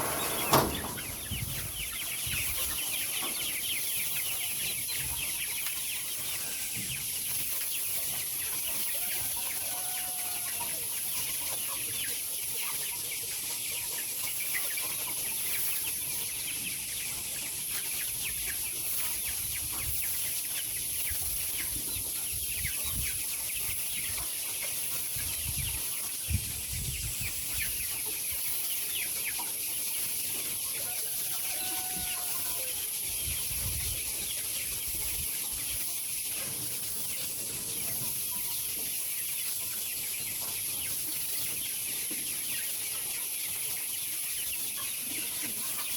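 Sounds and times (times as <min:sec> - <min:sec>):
chickens cheeping and clucking: 0:00.0 - 0:45.9.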